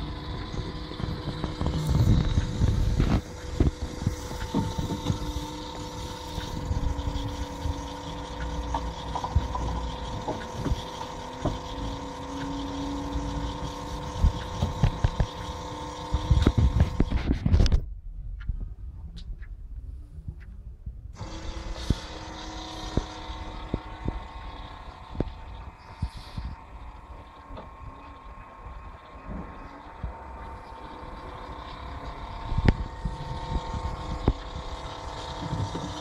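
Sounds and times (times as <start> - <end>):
steady droning hum: 0.0 - 36.0.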